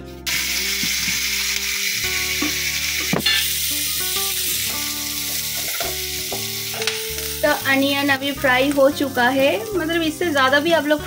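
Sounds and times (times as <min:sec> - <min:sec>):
onions sizzling in hot oil: 0:00.2 - 0:11.0.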